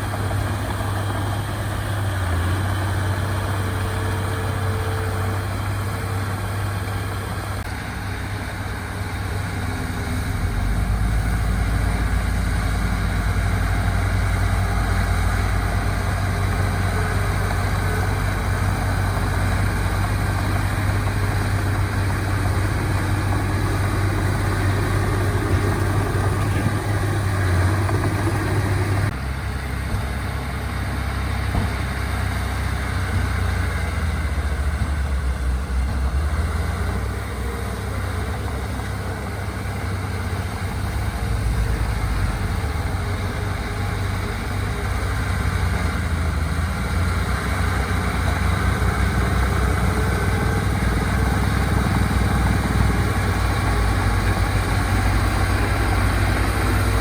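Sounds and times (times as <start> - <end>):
heavy diesel machinery hum: 0.0 - 57.0.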